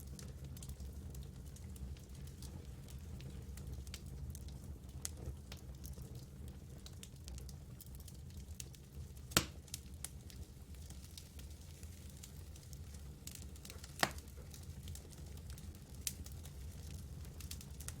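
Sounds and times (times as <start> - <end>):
campfire crackling: 0.1 - 18.0.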